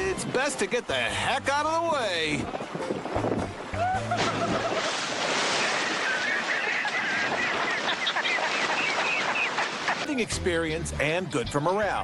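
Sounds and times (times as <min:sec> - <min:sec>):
heavy water splashing: 0:00.0 - 0:10.8.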